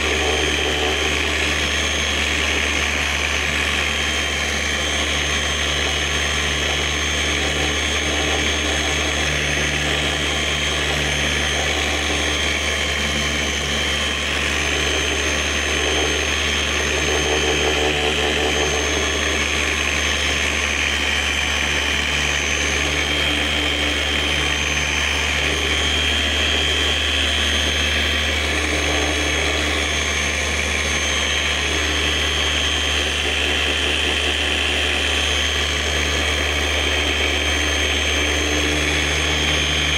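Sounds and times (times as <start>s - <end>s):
electric polisher hum and whine: 0.0s - 39.9s.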